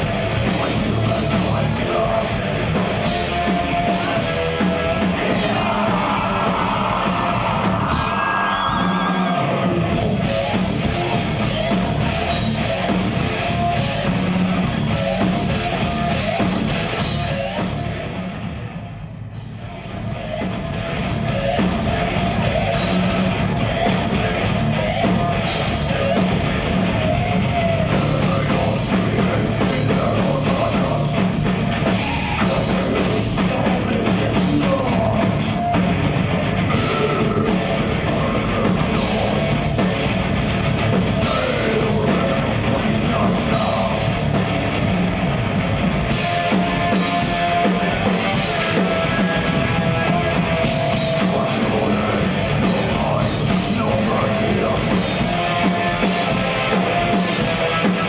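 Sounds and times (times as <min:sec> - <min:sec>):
death metal band playing live: 0:00.0 - 0:58.0.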